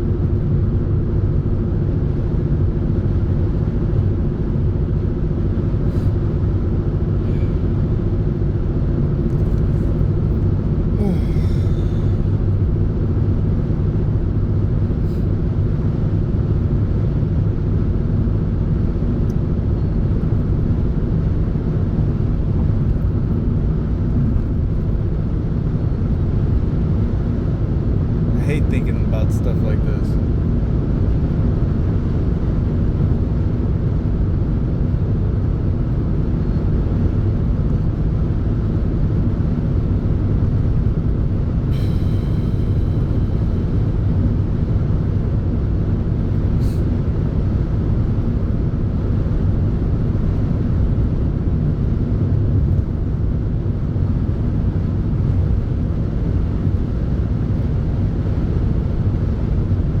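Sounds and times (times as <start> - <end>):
moving vehicle rumble: 0.0 - 60.0.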